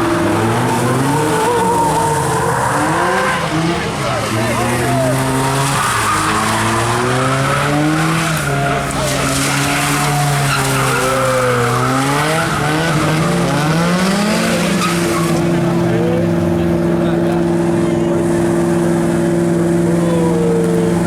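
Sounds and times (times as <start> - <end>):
car engine revving high: 0.0 - 21.0
tyres spinning on wet pavement: 0.0 - 21.0.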